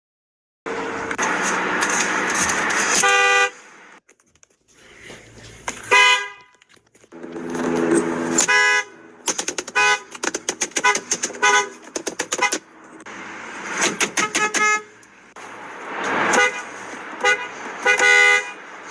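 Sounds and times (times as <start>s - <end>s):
car horns honking: 0.7s - 3.9s, 5.6s - 18.9s.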